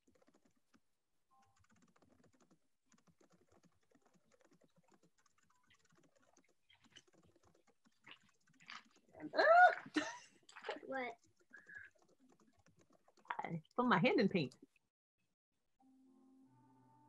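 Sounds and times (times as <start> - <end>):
faint rapid clicking: 0.0 - 9.2, 10.0 - 14.8.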